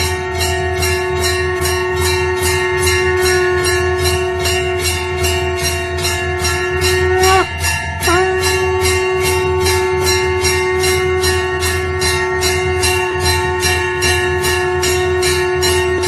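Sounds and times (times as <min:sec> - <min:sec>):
long held note: 0:00.0 - 0:16.0
temple bells ringing: 0:00.0 - 0:16.0.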